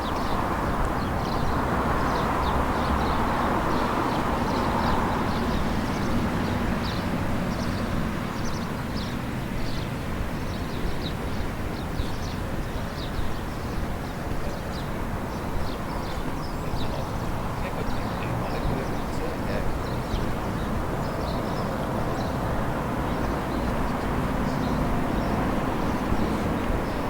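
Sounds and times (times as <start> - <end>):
birds chirping: 0.0 - 27.0
low street rumble: 0.0 - 27.0.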